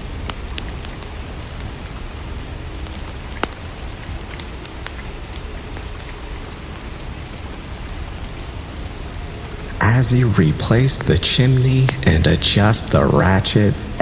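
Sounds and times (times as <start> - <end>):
sharp ticks and pops: 0.0 - 13.1
steady rainfall: 0.0 - 14.0.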